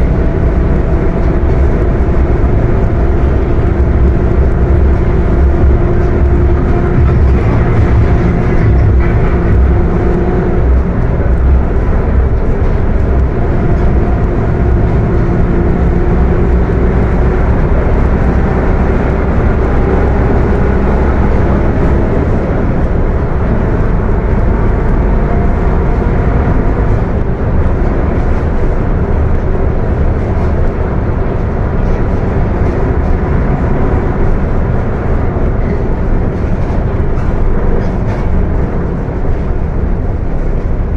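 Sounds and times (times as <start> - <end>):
diesel bus running: 0.0 - 40.9
transmission whine: 0.0 - 40.9.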